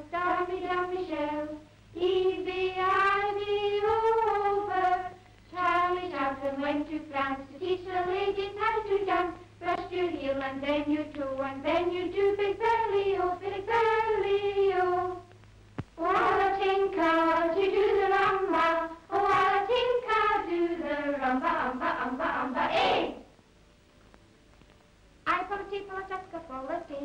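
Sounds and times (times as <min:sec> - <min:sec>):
girls singing: 0:00.0 - 0:15.3, 0:16.0 - 0:23.3.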